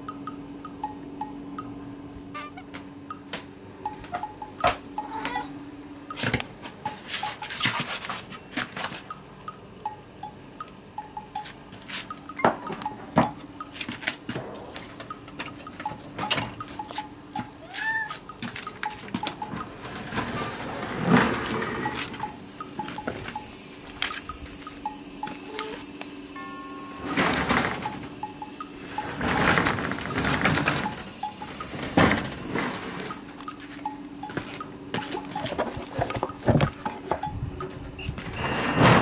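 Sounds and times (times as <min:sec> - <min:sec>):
high-pitched insect chorus: 0:02.4 - 0:34.2.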